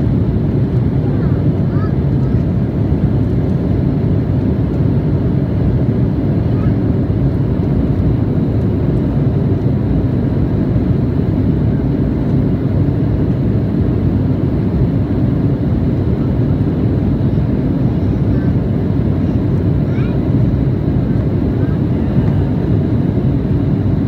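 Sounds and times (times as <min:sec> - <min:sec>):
airflow over fuselage: 0:00.0 - 0:24.0
jet cabin engine rumble: 0:00.0 - 0:24.0.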